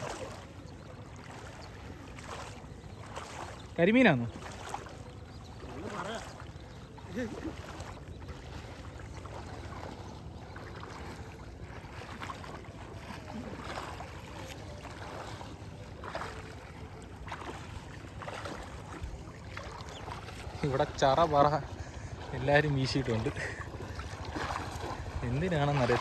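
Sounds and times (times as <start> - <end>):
water sloshing from wading: 0.0 - 26.0.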